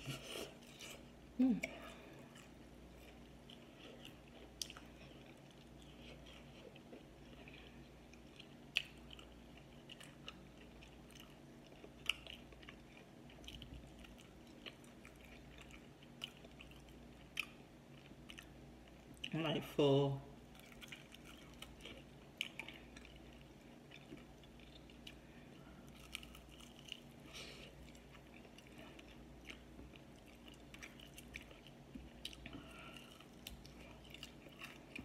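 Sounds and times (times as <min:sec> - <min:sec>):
wet chewing: 0:00.0 - 0:19.3, 0:20.5 - 0:35.0.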